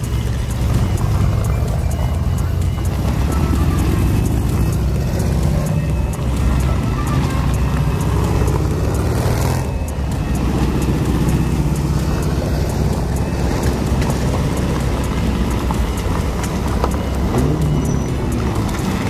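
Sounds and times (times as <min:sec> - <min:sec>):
engine revving: 0:00.0 - 0:19.0
motor trike engines running: 0:00.0 - 0:19.0.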